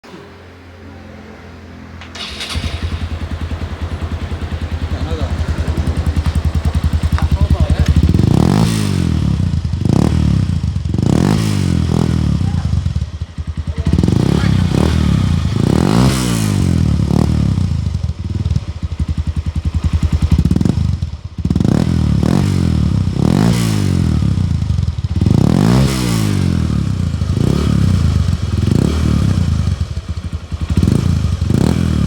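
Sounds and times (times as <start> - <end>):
motorcycle engine revving: 2.0 - 32.0.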